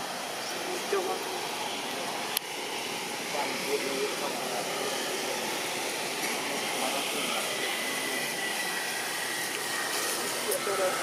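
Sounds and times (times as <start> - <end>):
steady hiss-like ambient noise: 0.0 - 11.0.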